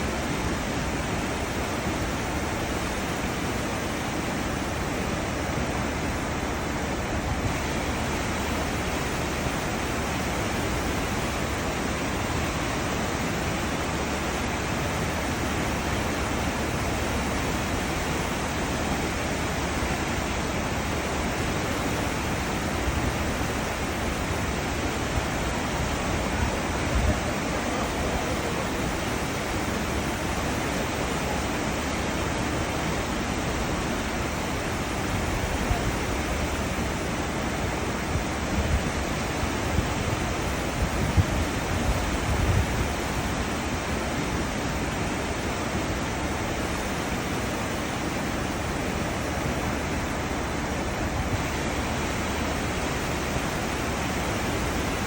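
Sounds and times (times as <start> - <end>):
churning ship wake water: 0.0 - 55.0.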